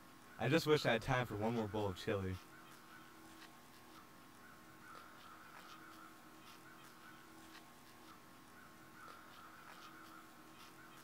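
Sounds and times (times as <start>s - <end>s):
thin steady hum: 0.0s - 11.0s.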